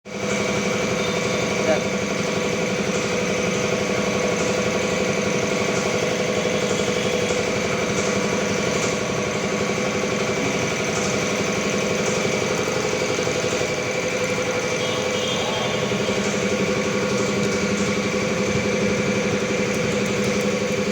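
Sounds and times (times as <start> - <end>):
small engine idling: 0.1 - 20.9.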